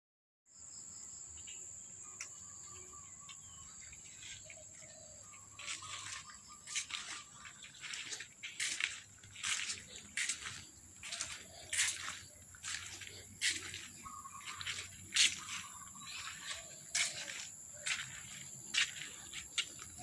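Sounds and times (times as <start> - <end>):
high-pitched insect trill: 0.5 - 20.0
bird chirps: 0.6 - 20.0.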